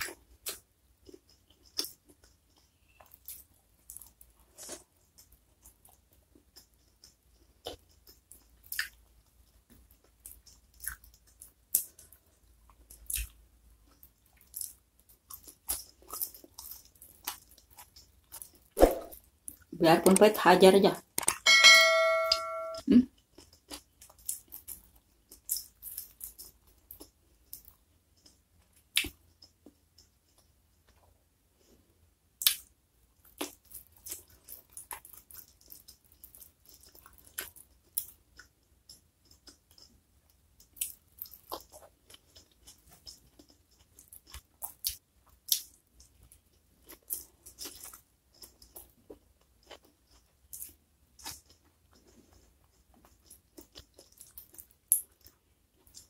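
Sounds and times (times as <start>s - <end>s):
wet chewing and smacking: 0.0s - 19.7s, 21.0s - 21.4s, 23.1s - 31.2s, 32.4s - 56.0s.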